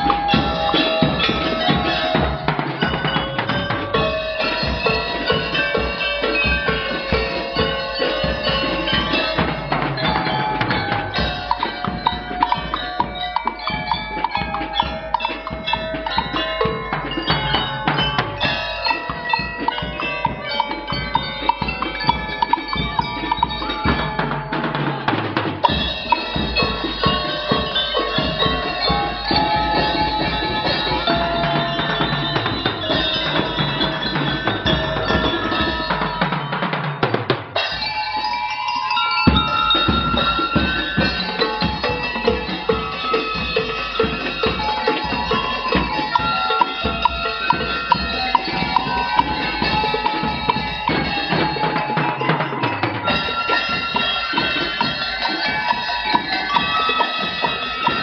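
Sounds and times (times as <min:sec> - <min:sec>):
bell lyres melody: 0:00.0 - 0:58.0
drums and cymbals beat: 0:00.0 - 0:58.0.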